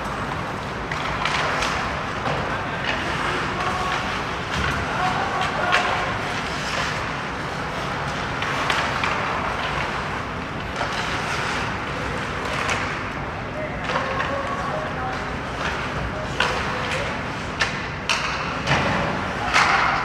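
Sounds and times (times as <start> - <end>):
hockey sticks and puck clacking: 0.0 - 20.0.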